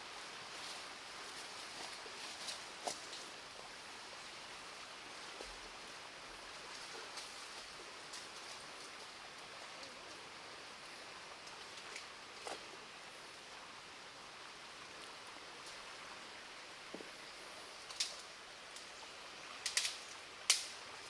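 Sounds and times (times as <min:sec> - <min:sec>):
shallow stream running: 0:00.0 - 0:21.0.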